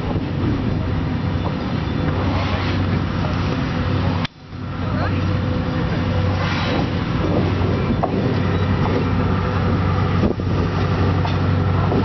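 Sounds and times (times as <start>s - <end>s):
diesel locomotive engine droning: 0.0s - 12.0s.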